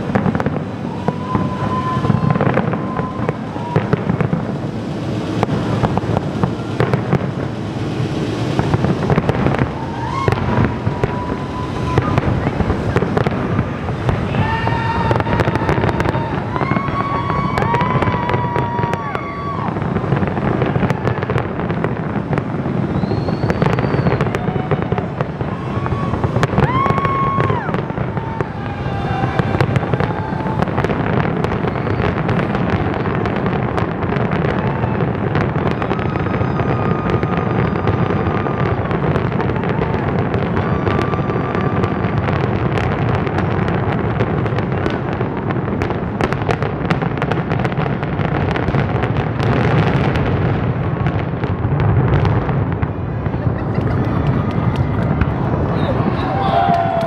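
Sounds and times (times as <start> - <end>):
fireworks crackling and bangs: 0.0 - 57.0
fireworks whistling: 0.0 - 57.0.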